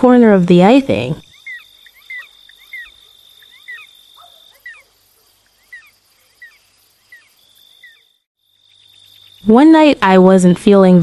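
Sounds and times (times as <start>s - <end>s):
high cricket trill: 0.1s - 10.0s.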